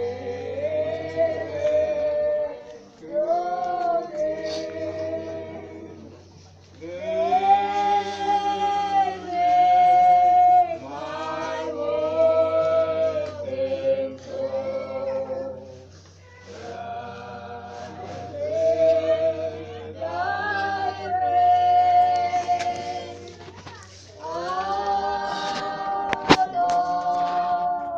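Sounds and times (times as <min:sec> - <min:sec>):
group singing unaccompanied: 0:00.0 - 0:27.9
steady low hum: 0:00.0 - 0:27.9.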